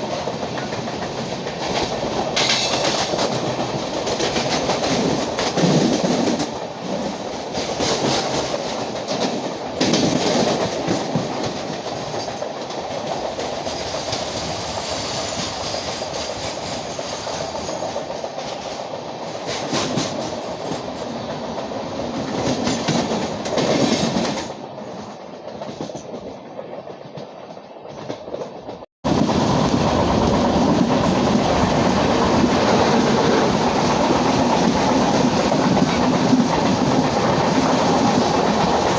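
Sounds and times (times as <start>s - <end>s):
train wheels clattering on track: 0.0s - 38.9s.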